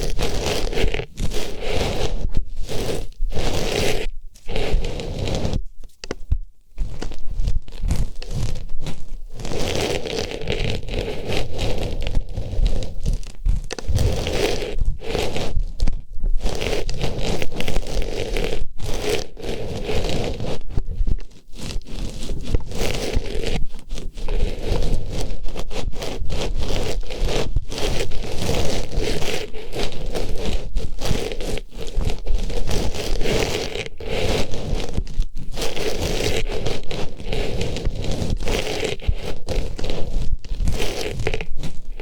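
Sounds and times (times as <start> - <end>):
rustling and scraping on microphone: 0.0 - 42.0.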